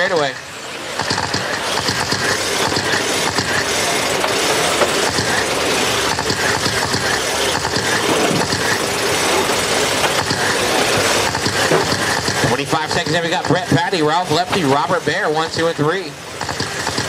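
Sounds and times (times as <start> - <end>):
rapid clicking and rattling: 0.0 - 17.0
rc truck motors whirring: 0.0 - 17.0.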